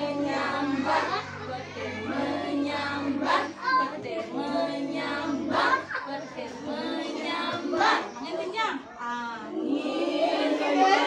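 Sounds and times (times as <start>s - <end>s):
children singing together: 0.0s - 11.0s.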